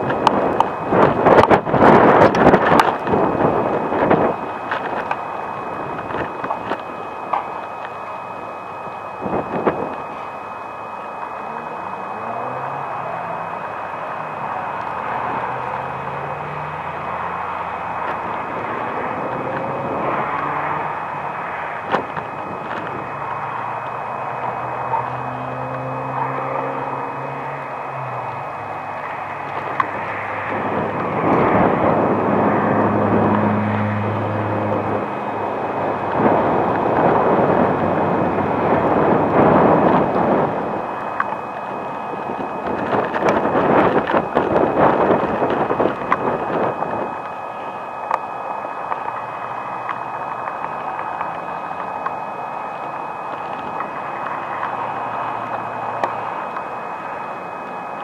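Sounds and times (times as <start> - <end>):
outdoor background noise and wind: 0.0 - 58.0.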